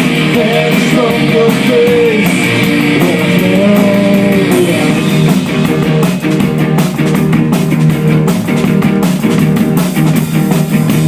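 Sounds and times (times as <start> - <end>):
electric guitars: 0.0 - 11.0
steady drum beat: 0.0 - 11.0.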